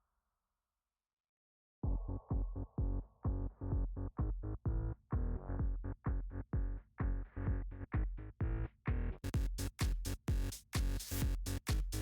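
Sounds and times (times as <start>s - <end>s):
music with pulsing beat: 1.8s - 12.0s.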